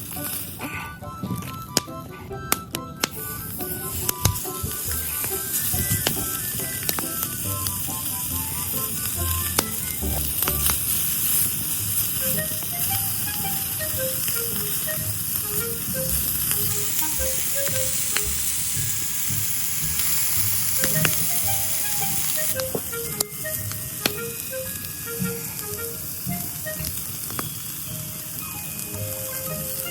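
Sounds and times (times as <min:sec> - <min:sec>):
food sizzling on barbecue: 0:00.0 - 0:00.6, 0:03.1 - 0:29.9
plucked background music: 0:00.0 - 0:29.9.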